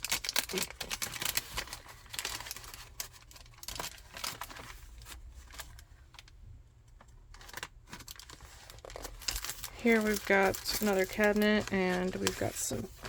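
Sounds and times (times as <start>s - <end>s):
paper pages turning and rustling: 0.0s - 6.3s, 7.0s - 13.0s.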